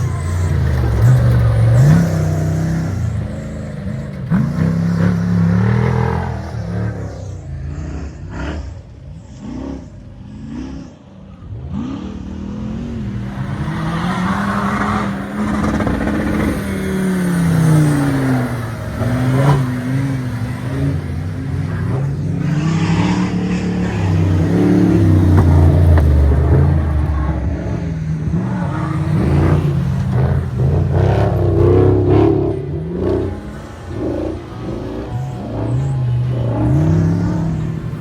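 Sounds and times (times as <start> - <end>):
racing car engine revving hard: 0.0 - 38.0.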